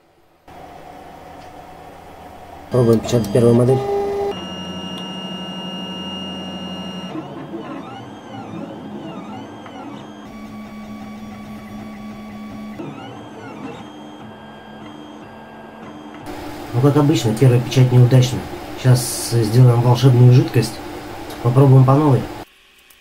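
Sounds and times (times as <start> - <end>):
stepper motors whining: 0.5 - 22.5.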